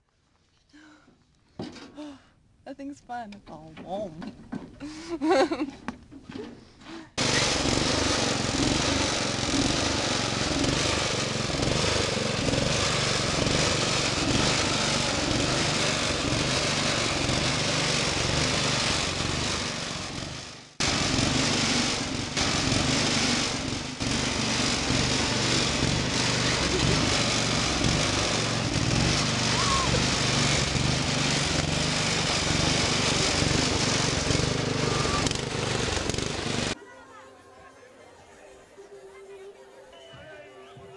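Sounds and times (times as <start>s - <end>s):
garden tractor engine running: 3.1s - 36.8s.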